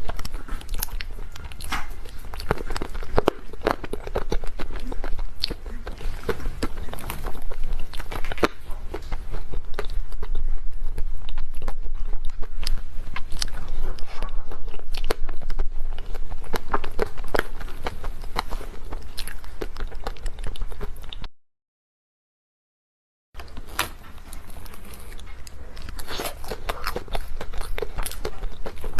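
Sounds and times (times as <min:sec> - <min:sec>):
person chewing dessert: 0:00.0 - 0:21.3, 0:23.4 - 0:28.9.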